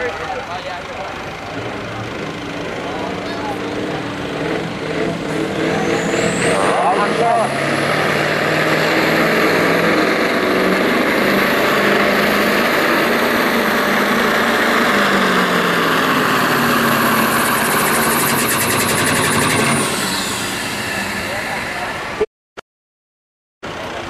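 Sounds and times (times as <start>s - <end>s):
diesel truck engine under load: 0.0s - 22.3s, 23.6s - 24.0s.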